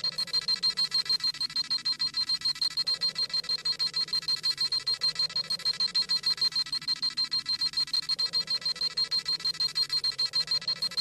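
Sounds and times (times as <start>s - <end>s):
high-pitched electronic beeps: 0.0s - 11.0s.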